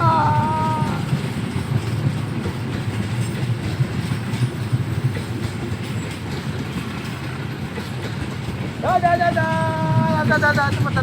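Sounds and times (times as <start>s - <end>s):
train rumbling on rails: 0.0s - 11.0s
train wheel clatter: 0.0s - 11.0s.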